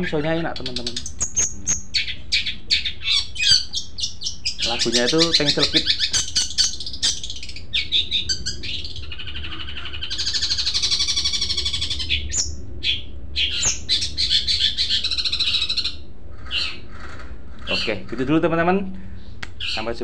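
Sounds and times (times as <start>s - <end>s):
bird singing chattering phrases: 0.0s - 17.0s, 17.6s - 18.5s, 19.5s - 20.0s
bird trill: 0.0s - 18.3s, 19.6s - 20.0s.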